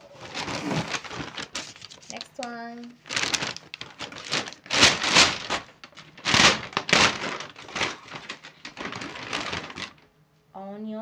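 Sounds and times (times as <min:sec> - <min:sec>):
paper bag rustling and crinkling: 0:00.0 - 0:10.0.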